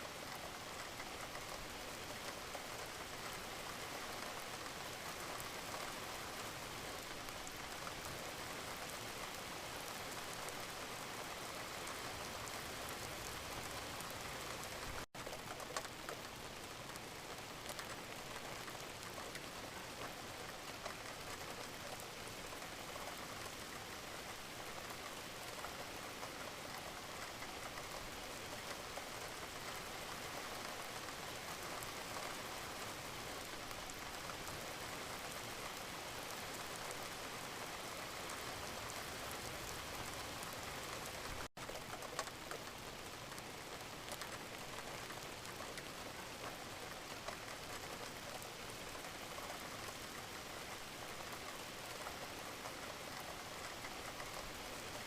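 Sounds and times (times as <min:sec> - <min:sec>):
rain drops ticking on a surface: 0:00.0 - 0:55.0.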